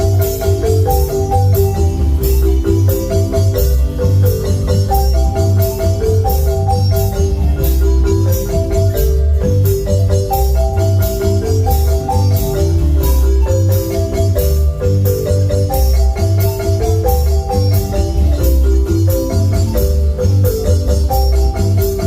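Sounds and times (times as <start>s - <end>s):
deep bass line: 0.0s - 22.0s
high percussion beat: 0.0s - 22.0s
marimba notes: 0.0s - 22.0s.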